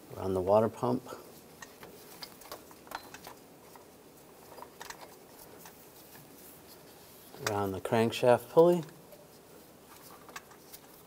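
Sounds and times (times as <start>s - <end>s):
belt clicking and rubbing on pulleys: 1.2s - 7.8s, 8.6s - 11.0s.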